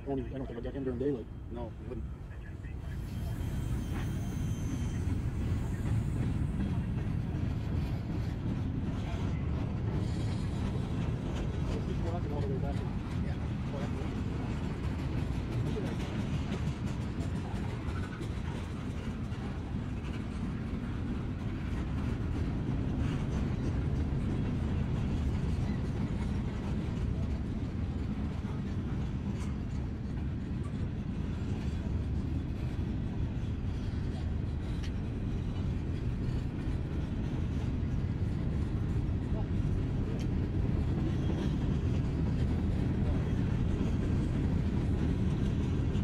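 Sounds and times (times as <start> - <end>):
freight cars rolling on rails: 0.0 - 46.0.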